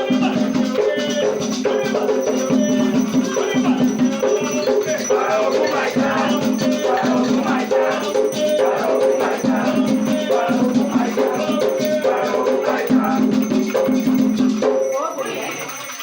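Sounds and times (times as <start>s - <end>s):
voices singing a chant: 0.0s - 15.9s
drums: 0.0s - 16.0s
rattling shaker: 0.0s - 16.0s.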